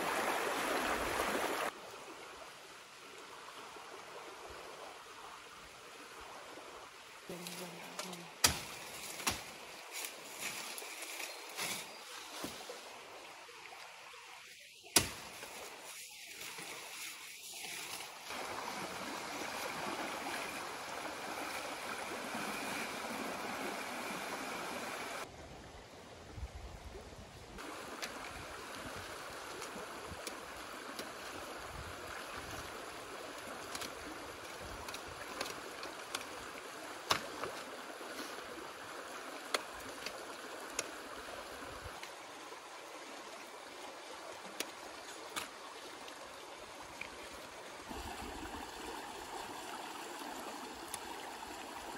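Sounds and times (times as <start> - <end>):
stream running over stones: 0.0 - 25.9, 26.7 - 51.9.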